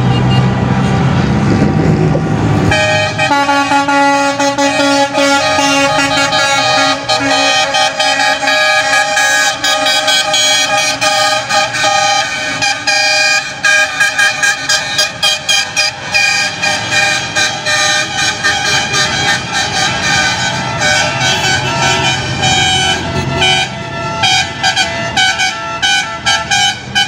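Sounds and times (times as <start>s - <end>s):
vehicle horns honking: 0.0s - 0.5s, 2.7s - 27.0s
truck engines passing: 0.0s - 27.0s.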